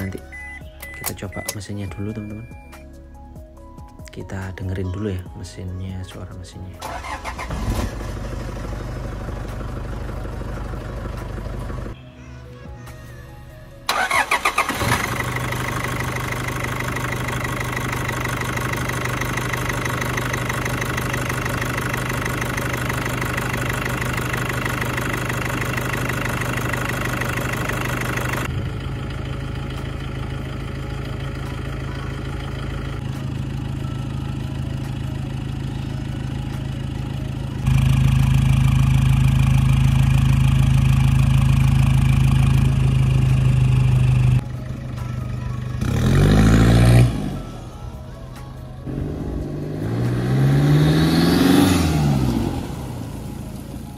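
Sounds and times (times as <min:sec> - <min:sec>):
diesel engine idling: 0:06.7 - 0:12.2, 0:13.9 - 0:53.9.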